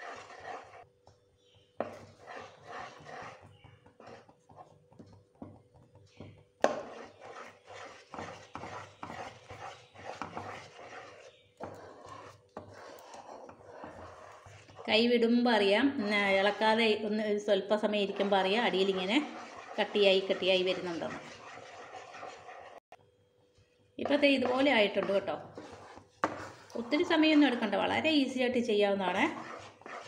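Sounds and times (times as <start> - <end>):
spatula scraping a pan: 0.0 - 0.9, 1.6 - 15.3, 15.9 - 22.9, 24.0 - 30.0.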